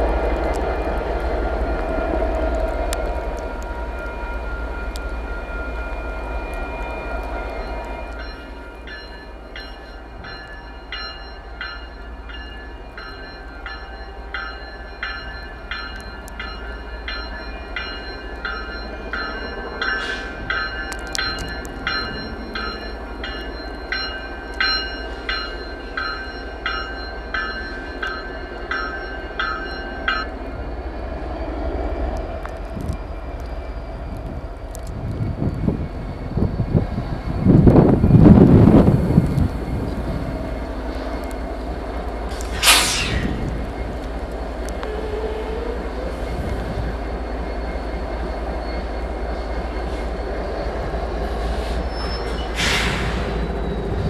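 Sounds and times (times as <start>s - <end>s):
diesel locomotives rumbling: 0.0s - 54.0s
railway bell ringing: 0.0s - 54.0s.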